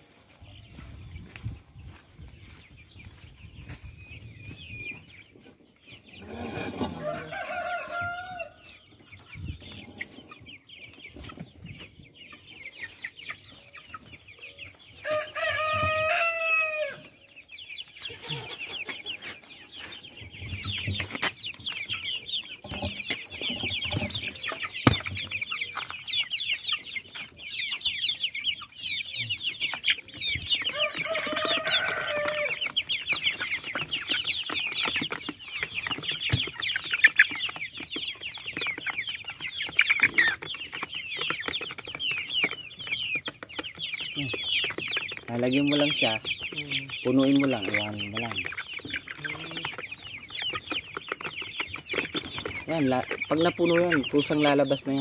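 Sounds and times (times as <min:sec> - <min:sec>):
hens clucking: 0:00.0 - 0:55.0.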